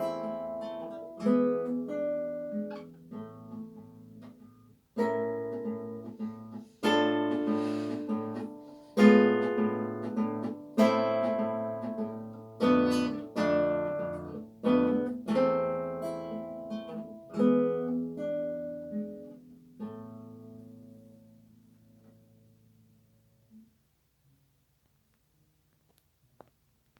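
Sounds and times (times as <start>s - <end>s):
classical guitar strummed chords: 0.0s - 23.7s.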